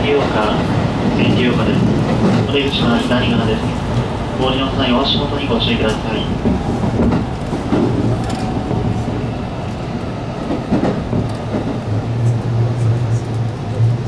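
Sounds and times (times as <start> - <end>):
train rumble inside carriage: 0.0 - 14.0
wheels clacking: 0.2 - 14.0.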